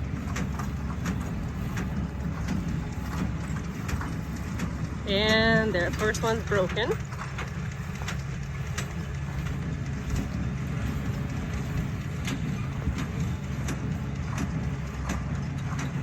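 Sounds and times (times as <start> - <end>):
baler clacking: 0.0 - 16.0
tractor engine running: 0.0 - 16.0.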